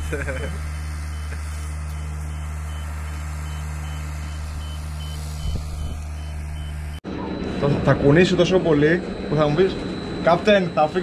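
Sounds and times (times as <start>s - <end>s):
diesel engine running: 0.0s - 11.0s
high warning beeper: 0.6s - 11.0s.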